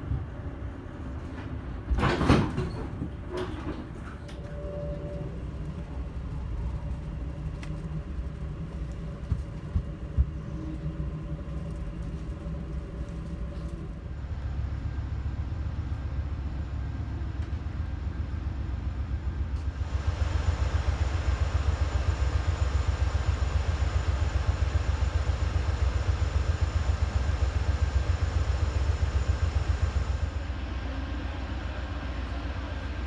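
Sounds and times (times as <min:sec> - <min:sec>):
train wheels rumbling on track: 0:00.0 - 0:33.0
steady low hum: 0:04.4 - 0:33.0.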